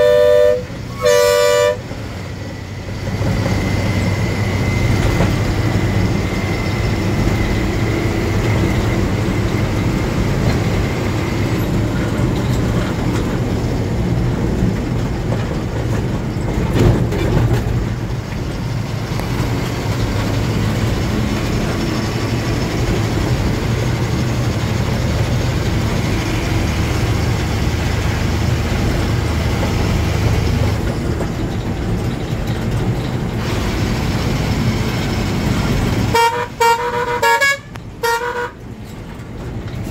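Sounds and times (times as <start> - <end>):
lorry diesel engine drone: 0.0 - 39.9
road noise: 0.0 - 39.9.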